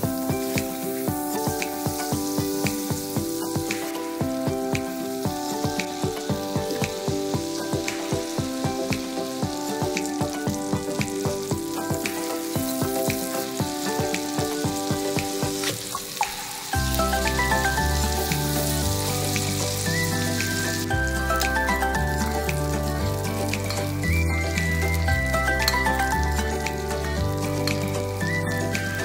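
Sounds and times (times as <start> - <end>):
background music with deep bass: 0.0 - 29.0
fish sizzling in hot oil: 0.0 - 29.0.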